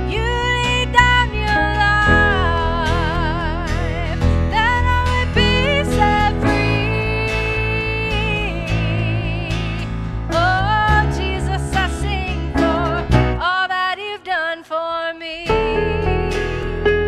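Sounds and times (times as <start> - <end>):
bass guitar: 0.0 - 13.5, 15.5 - 17.0
guitar: 0.0 - 14.5, 15.2 - 17.0
person singing: 0.0 - 17.0.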